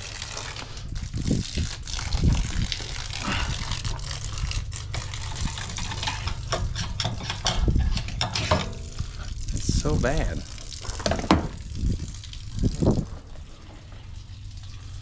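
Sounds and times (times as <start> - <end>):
water gushing and splashing: 0.0 - 15.0.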